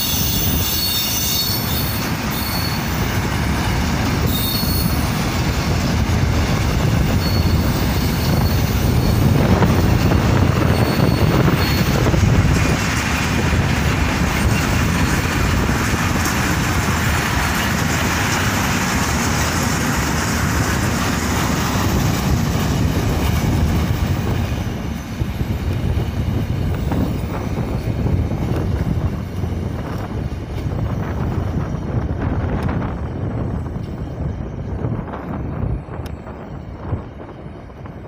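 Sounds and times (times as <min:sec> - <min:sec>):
freight train wheels rumbling: 0:00.0 - 0:38.0.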